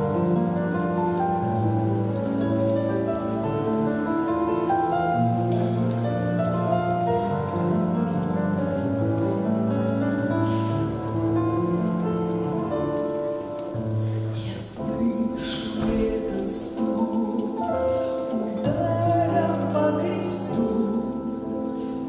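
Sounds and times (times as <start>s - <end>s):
slow instrumental music: 0.0s - 22.0s.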